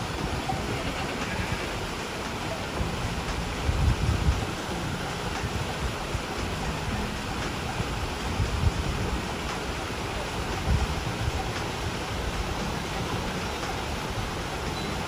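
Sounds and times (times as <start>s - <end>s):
stream running over stones: 0.0s - 15.0s
wind rumble on microphone: 0.0s - 15.0s.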